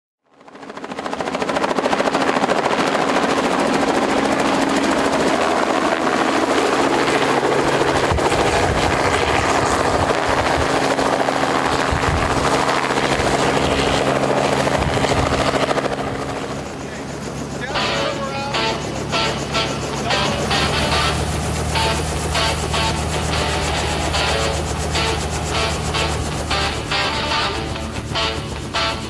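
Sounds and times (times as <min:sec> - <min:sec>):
helicopter hovering: 0:00.3 - 0:29.0.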